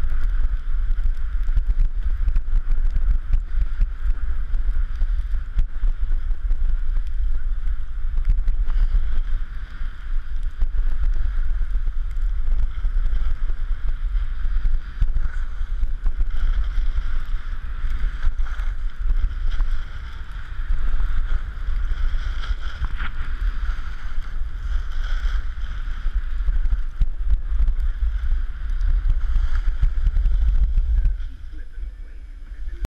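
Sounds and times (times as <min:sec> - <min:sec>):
skis sliding on snow: 0:00.0 - 0:32.9
wind rumbling on microphone: 0:00.0 - 0:32.9.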